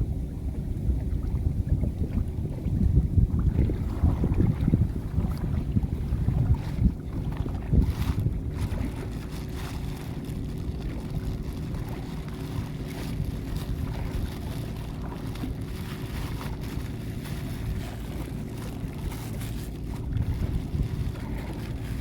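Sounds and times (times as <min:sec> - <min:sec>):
small boat engine running: 0:00.0 - 0:22.0
wind buffeting microphone: 0:00.0 - 0:22.0.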